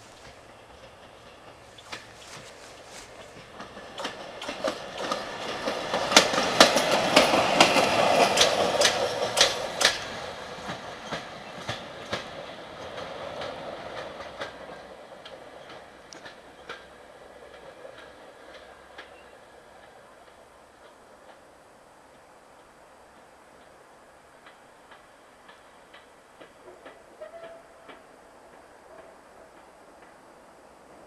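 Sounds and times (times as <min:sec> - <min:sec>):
railcar wheels clicking on rails: 0:00.0 - 0:31.0.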